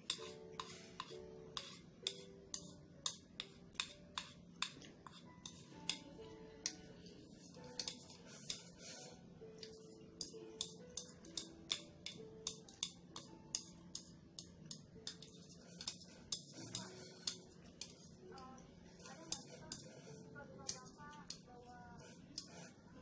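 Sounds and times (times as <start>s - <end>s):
faint slow background music: 0.0s - 23.0s
chopsticks clicking on ceramic bowl: 0.1s - 6.8s, 7.6s - 8.1s, 9.5s - 20.0s, 20.6s - 21.5s.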